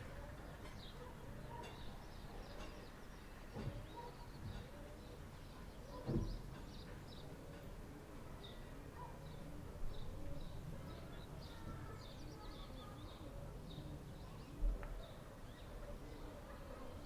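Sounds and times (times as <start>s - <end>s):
small birds chirping: 0.2s - 7.6s, 8.2s - 17.0s.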